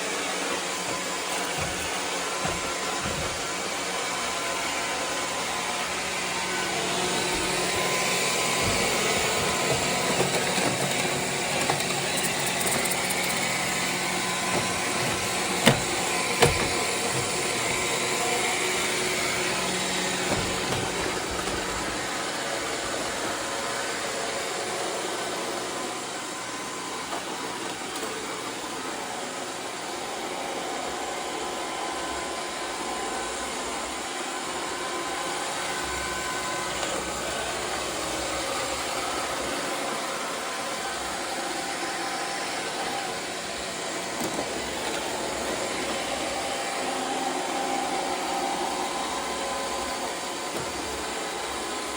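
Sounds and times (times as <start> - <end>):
robot vacuum running: 0.0 - 51.9.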